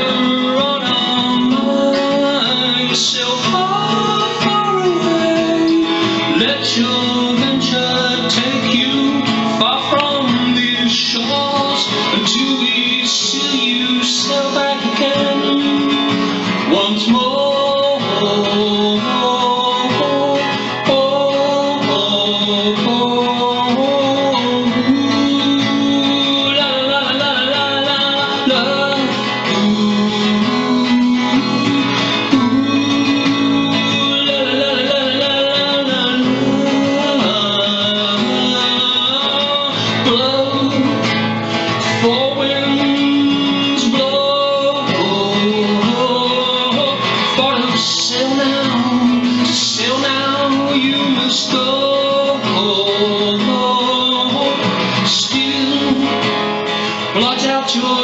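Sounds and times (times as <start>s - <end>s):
man singing folk song: 0.0s - 58.0s
strummed acoustic guitar: 0.0s - 58.0s.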